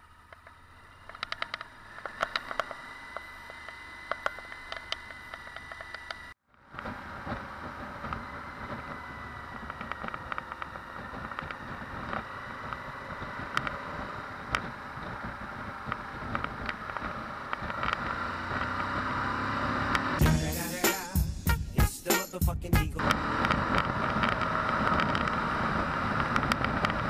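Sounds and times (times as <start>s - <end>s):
wind and road noise: 0.0s - 20.2s, 23.0s - 27.0s
motorcycle engine running: 0.0s - 27.0s.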